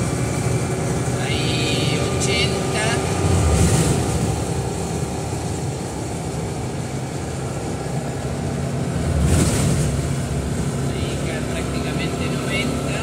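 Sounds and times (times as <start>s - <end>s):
car engine running: 0.0s - 13.0s
road and wind noise: 0.0s - 13.0s.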